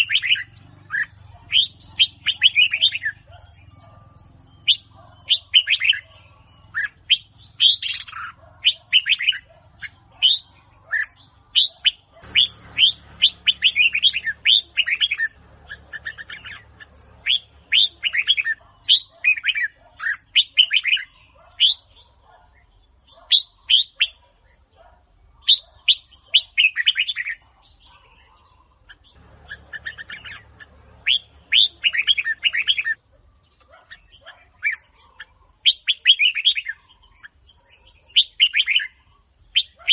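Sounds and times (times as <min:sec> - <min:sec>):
bulbul singing whistled notes: 0:00.0 - 0:24.2, 0:29.2 - 0:35.0, 0:35.6 - 0:37.3, 0:38.0 - 0:39.9.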